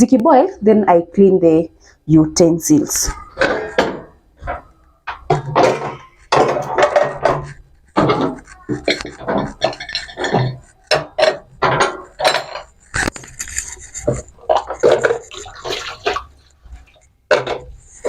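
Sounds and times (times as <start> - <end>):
pots and pans clattering: 3.2 - 18.0.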